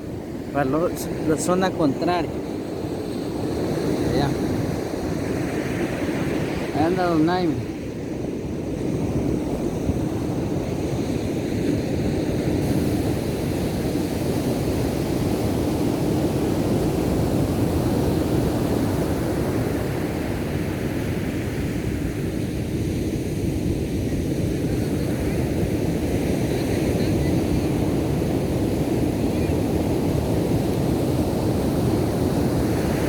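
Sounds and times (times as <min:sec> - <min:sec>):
ocean surf breaking: 0:00.0 - 0:22.2, 0:24.1 - 0:33.0.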